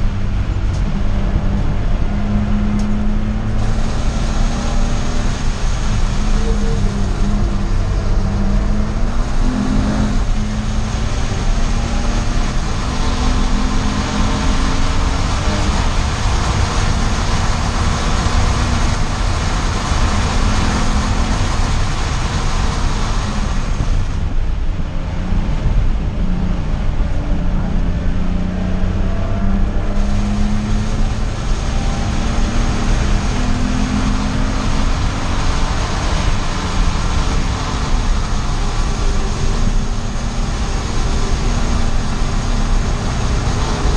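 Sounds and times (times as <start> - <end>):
car engine accelerating: 0.0 - 43.9
wind and road noise: 0.0 - 43.9.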